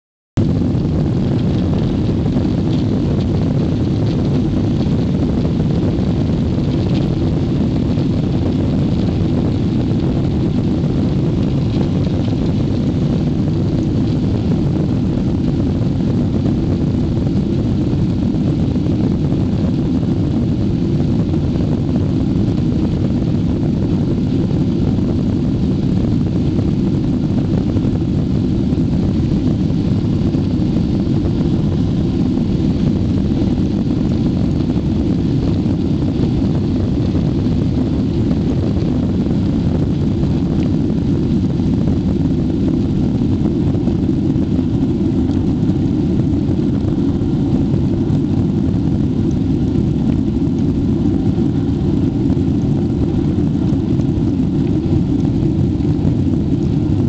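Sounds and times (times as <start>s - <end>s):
airliner cabin engine rumble: 0.4s - 57.0s.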